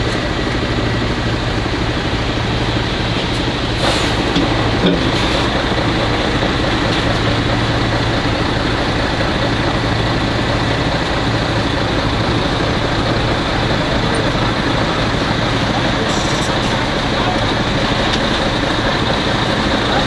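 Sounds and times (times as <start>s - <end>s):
truck diesel engine running: 0.0s - 20.0s
tyre and road noise: 0.0s - 20.0s.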